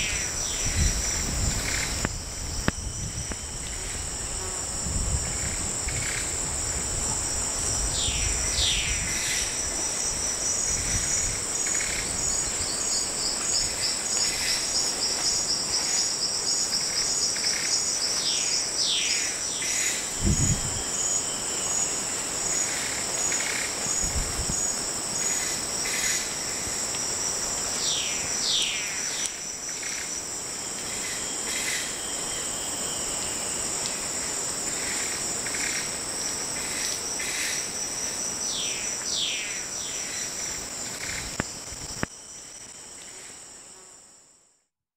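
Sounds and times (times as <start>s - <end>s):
pulsing insect trill: 0.0s - 44.0s
insects droning: 0.0s - 44.6s.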